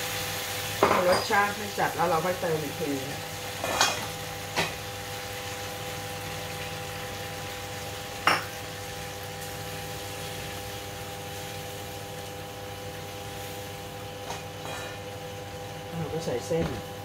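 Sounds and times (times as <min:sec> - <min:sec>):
food frying in a pan: 0:00.0 - 0:17.0.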